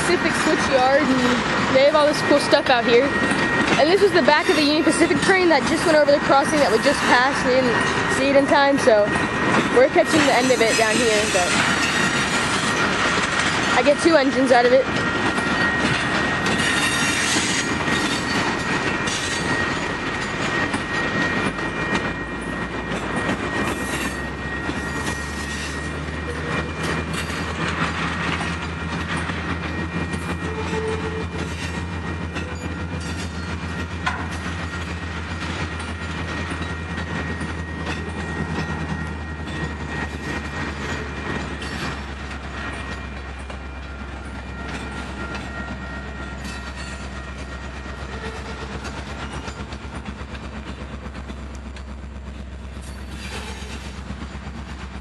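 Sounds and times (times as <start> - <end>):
train wheels clacking over rail joints: 0.0 - 55.0.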